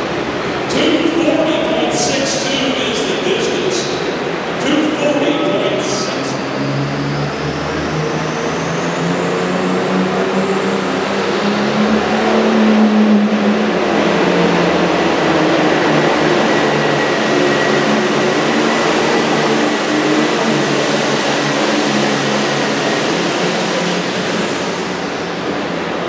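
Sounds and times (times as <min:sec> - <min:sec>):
high turbo whine: 0:00.0 - 0:26.0
tractor diesel engine under load: 0:00.0 - 0:26.0.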